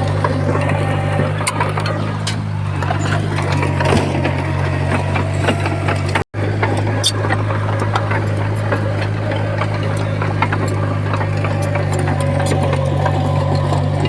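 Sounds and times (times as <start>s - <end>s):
bulldozer diesel engine droning: 0.0s - 14.0s
clanks and clicks: 0.0s - 14.0s.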